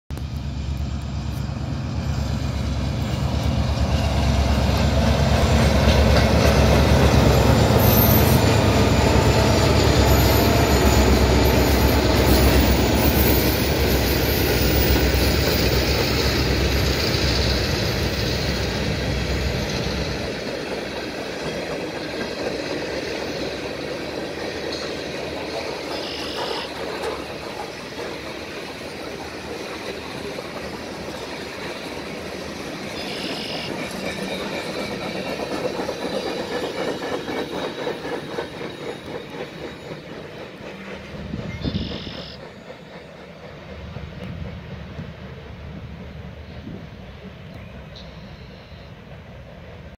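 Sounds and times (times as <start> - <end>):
diesel locomotive engine rumble: 0.1 - 49.9
rolling clatter of freight cars: 0.1 - 49.9
train wheel squeal: 0.4 - 49.8.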